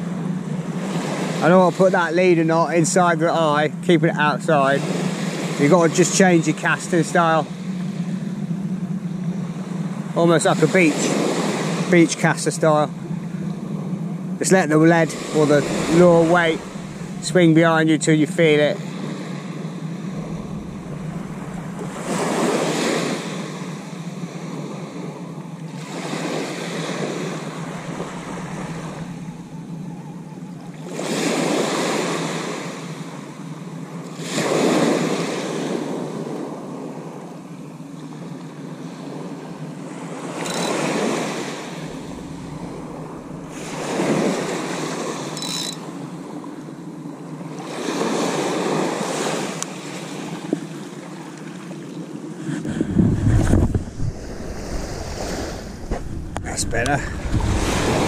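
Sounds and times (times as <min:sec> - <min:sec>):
waves washing up a beach: 0:00.0 - 0:58.0.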